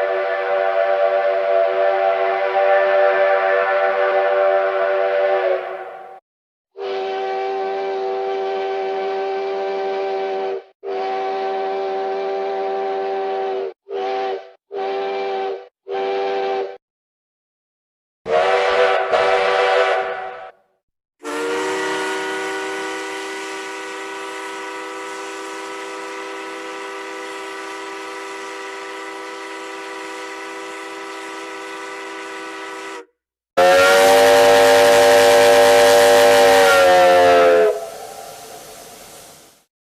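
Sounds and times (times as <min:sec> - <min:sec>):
steam train whistle: 0:00.0 - 0:06.2, 0:06.8 - 0:16.8, 0:18.3 - 0:20.6, 0:21.2 - 0:39.7.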